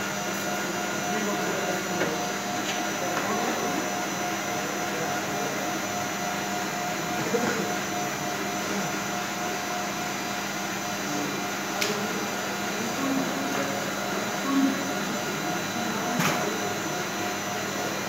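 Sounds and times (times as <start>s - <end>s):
kitchen machinery whirring: 0.0s - 18.0s.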